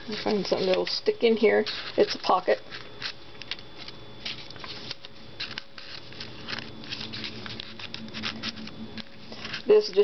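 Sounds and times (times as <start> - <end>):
paper pages rustling: 0.0 - 1.0, 1.6 - 10.0
faint steady hum: 0.0 - 10.0.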